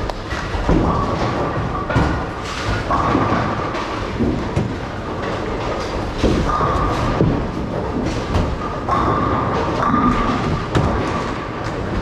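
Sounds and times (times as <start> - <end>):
balls striking pins: 0.0 - 12.0
bowling balls rumbling: 0.0 - 12.0.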